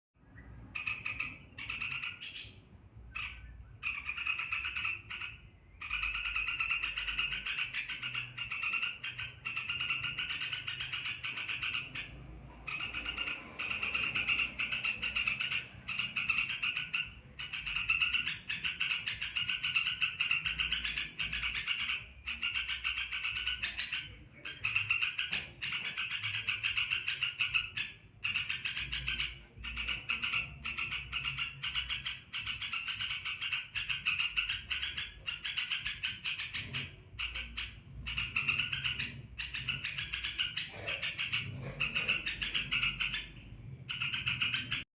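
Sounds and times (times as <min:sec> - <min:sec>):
bulbul singing: 0:00.2 - 0:44.9.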